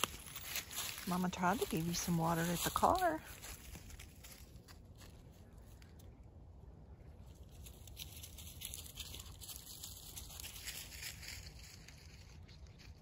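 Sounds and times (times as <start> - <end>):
dry leaves crunching underfoot: 0.0 - 5.8, 7.4 - 13.0
low steady rumble: 0.0 - 13.0.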